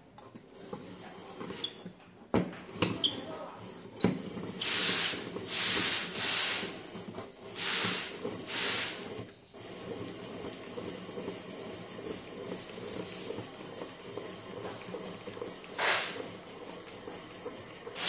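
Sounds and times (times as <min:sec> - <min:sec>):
blade scraping through potato: 0:00.4 - 0:01.9, 0:02.6 - 0:18.0.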